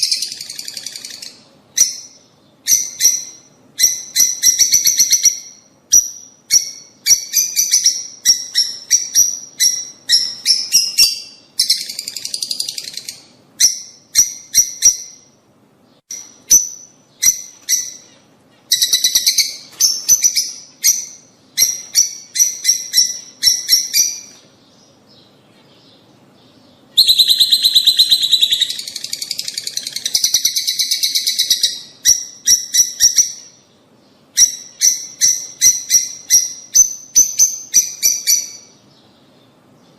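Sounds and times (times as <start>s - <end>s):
lovebirds chirping and chattering: 0.0s - 39.9s.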